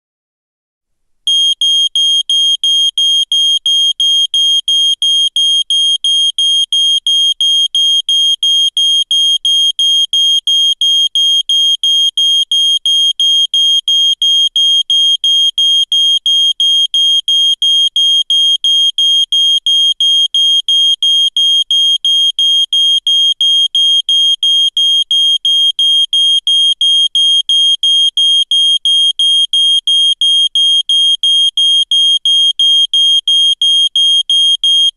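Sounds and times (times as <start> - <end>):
smoke alarm beeping: 1.3 - 34.9.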